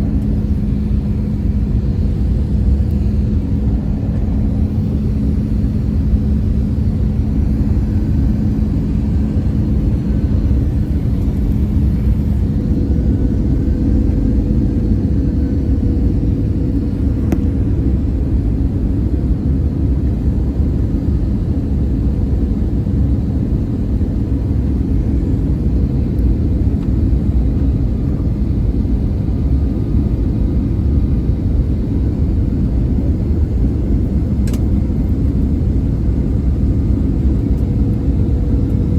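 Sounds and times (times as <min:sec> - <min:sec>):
faint steady hum: 0:00.0 - 0:38.9
jet engine rumble in flight: 0:00.0 - 0:38.9.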